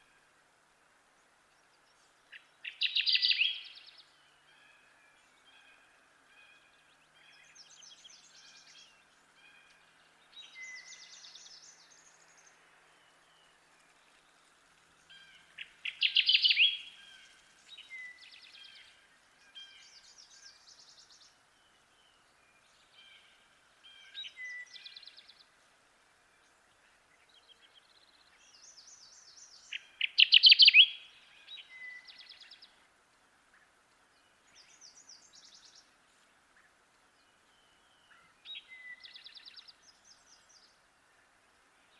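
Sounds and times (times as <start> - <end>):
faint bird songs and chirps: 0.0 - 41.9
warbler singing loud song: 0.8 - 41.9.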